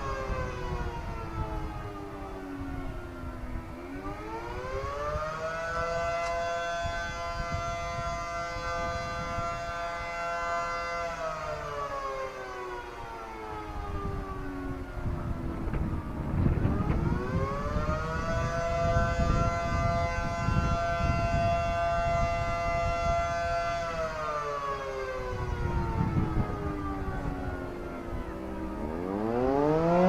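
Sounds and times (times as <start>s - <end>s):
air-raid siren wailing: 0.0s - 30.0s.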